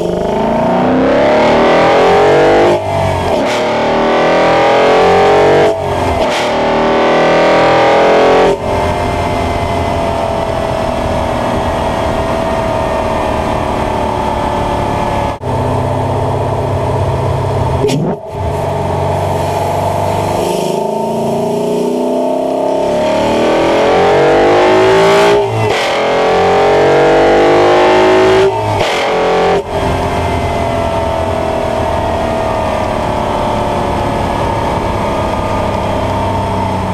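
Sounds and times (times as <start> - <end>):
car engine intake revving: 0.0 - 34.2.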